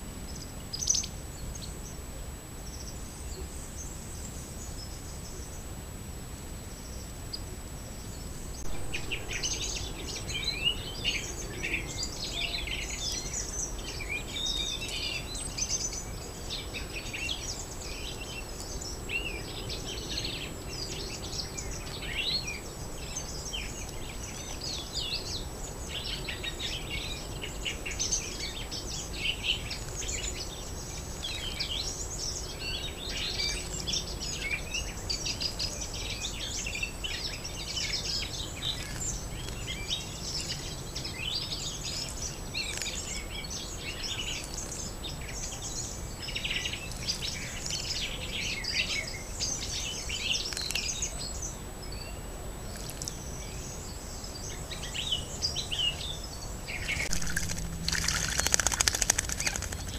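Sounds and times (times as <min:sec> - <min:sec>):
low background noise: 0:00.0 - 0:59.9
small birds chirping: 0:06.7 - 0:59.9.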